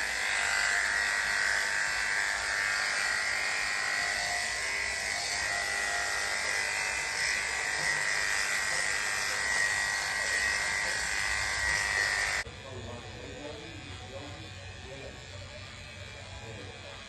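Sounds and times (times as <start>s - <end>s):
electric clippers humming: 0.0s - 17.0s.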